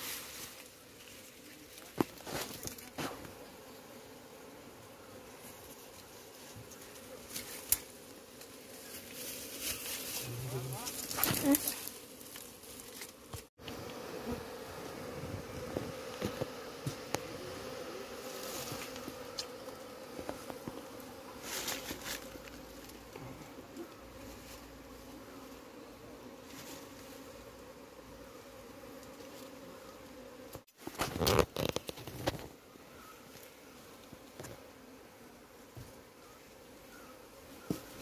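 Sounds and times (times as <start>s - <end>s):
bees buzzing: 0.6s - 38.0s.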